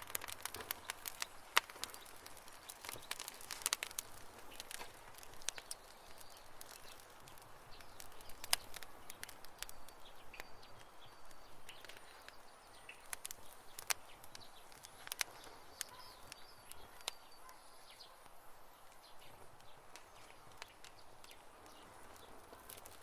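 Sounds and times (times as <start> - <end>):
campfire crackling: 0.0 - 23.0
soft steady hiss: 0.0 - 23.0.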